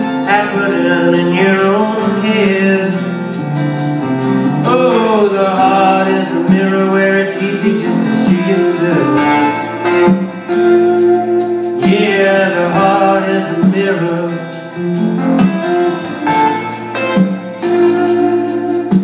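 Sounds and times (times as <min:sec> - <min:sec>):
drums: 0:00.0 - 0:19.0
guitars playing: 0:00.0 - 0:19.0.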